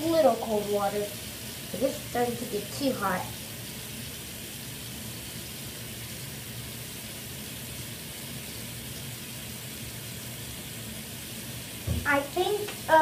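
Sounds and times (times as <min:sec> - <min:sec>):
faucet running into sink: 0:00.1 - 0:13.0.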